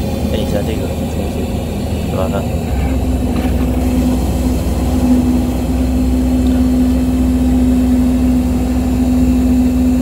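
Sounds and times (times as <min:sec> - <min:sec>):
loud steady hum: 0:00.0 - 0:10.0.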